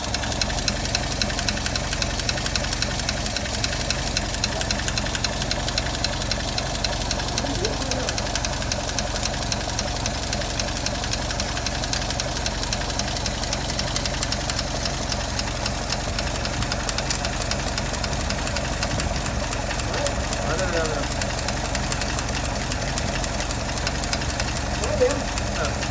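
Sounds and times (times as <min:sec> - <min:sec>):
car engine idling: 0:00.0 - 0:25.9
valve lifter ticking: 0:00.0 - 0:25.9.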